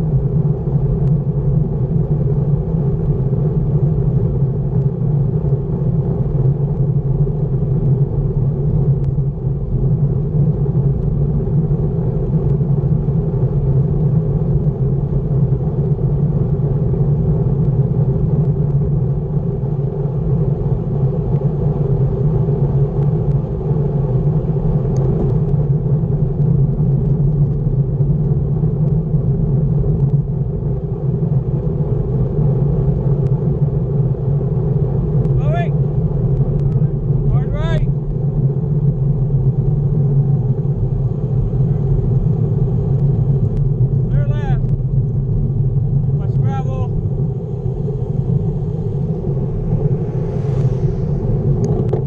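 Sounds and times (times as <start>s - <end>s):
bicycle road noise: 0.0s - 52.0s
wind rumble: 0.0s - 52.0s.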